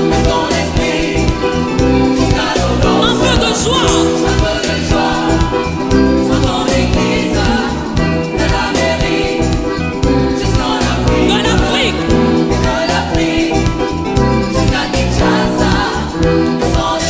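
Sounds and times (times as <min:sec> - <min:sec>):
band playing: 0:00.0 - 0:17.0
gospel choir singing: 0:00.0 - 0:17.0
rhythmic bass beat: 0:00.0 - 0:17.0.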